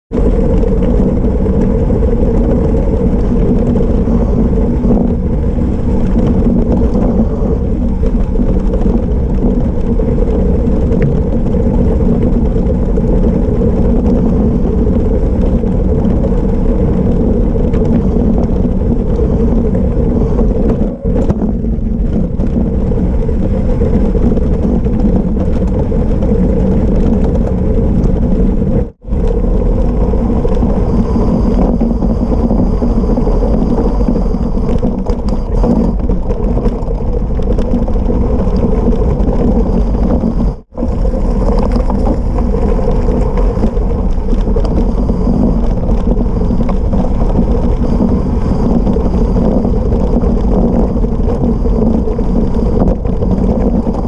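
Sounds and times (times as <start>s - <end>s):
bike tyres rumbling on gravel: 0.1s - 54.0s
rushing air: 0.2s - 54.0s.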